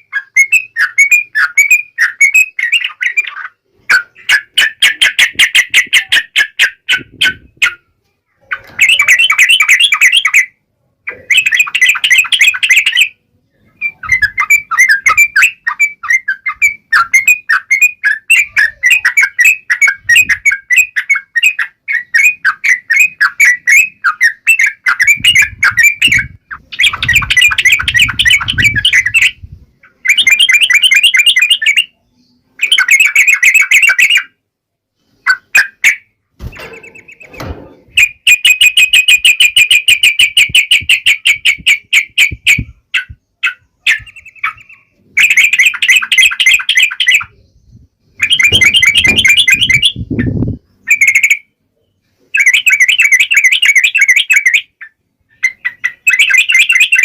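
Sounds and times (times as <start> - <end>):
bird chattering song: 0.0 - 34.4, 35.0 - 57.0.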